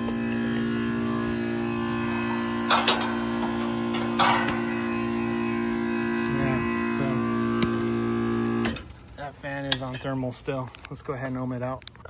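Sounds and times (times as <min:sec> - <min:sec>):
compressor squealing whine: 0:00.0 - 0:10.1.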